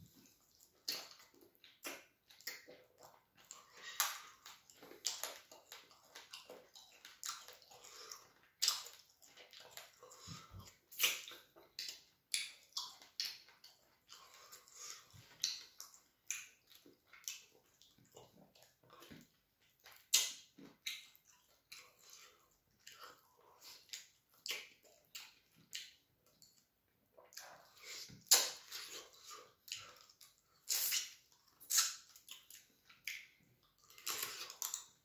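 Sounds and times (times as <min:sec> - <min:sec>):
man chewing wetly: 0:00.1 - 0:35.0
lip smacks and slurps: 0:00.2 - 0:35.0.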